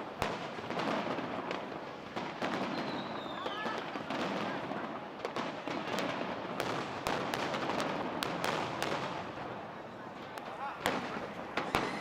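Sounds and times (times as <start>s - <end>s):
background haze of noise: 0.0s - 12.0s
fireworks bangs and crackles: 0.0s - 12.0s.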